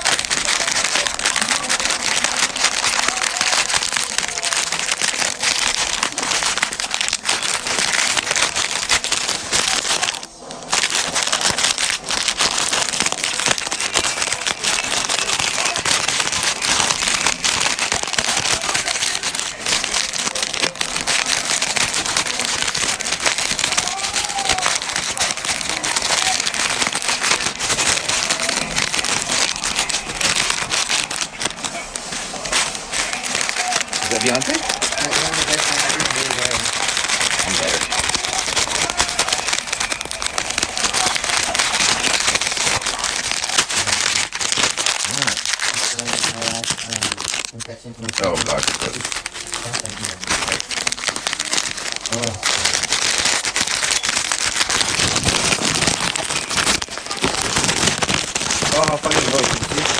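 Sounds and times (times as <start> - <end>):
snack bag crinkling and crushing: 0.0 - 59.9.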